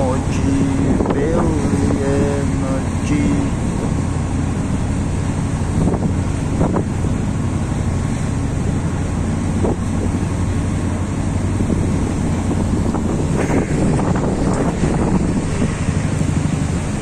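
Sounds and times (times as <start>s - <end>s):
boat engine drone: 0.0s - 17.0s
water rushing past: 0.0s - 17.0s
wind buffeting microphone: 0.0s - 17.0s.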